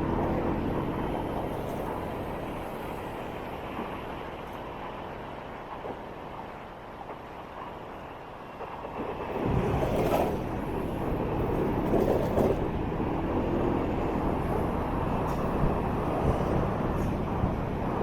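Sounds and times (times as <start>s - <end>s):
road noise: 0.0s - 7.0s, 9.4s - 18.0s.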